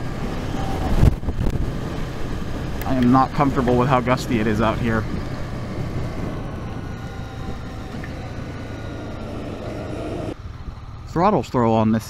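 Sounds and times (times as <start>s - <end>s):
wind rush: 0.0s - 11.1s
motorcycle engine running: 0.0s - 11.2s.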